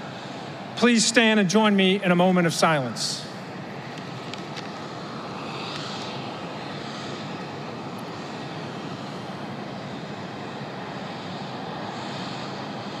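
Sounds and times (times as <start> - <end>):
hangar background rushing noise: 0.0 - 13.0.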